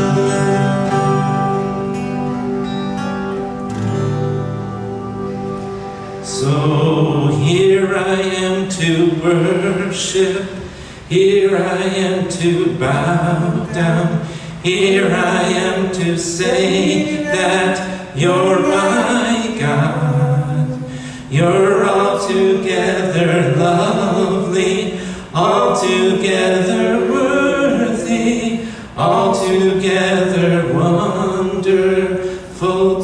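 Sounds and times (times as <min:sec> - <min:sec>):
voices singing a worship song: 0:06.2 - 0:33.0.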